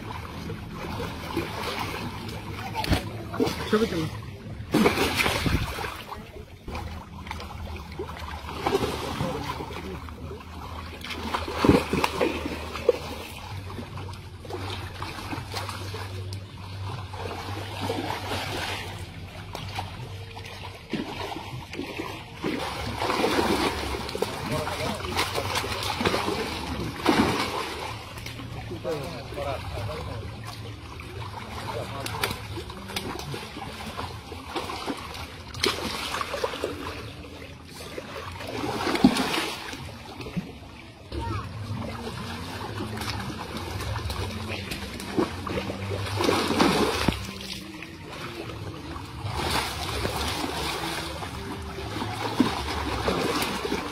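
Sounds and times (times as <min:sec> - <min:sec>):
fish splashing in water: 0:00.0 - 0:53.9
low steady hum: 0:00.0 - 0:53.9.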